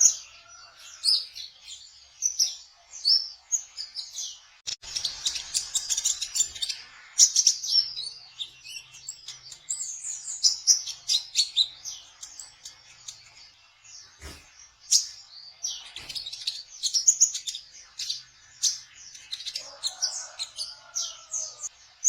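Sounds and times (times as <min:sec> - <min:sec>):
bird singing high chirps and trills: 0:00.0 - 0:22.0.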